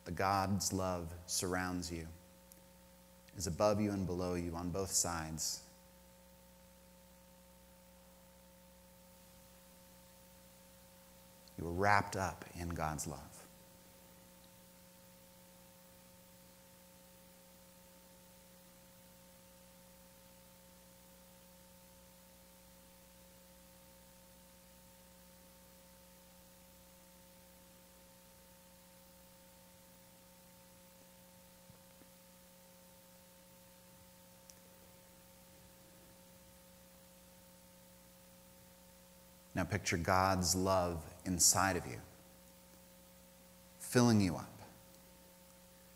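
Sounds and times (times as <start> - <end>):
faint electrical hum: 0.0 - 45.9.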